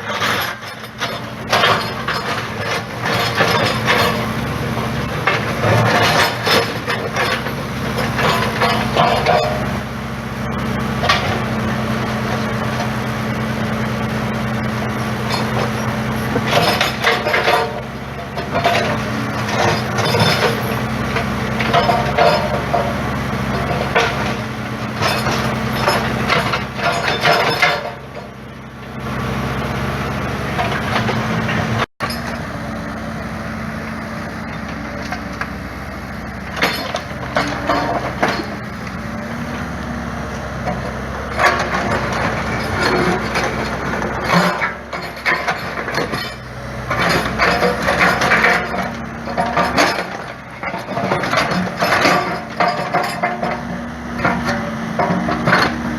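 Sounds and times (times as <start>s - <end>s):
digger diesel engine running: 0.0s - 55.9s.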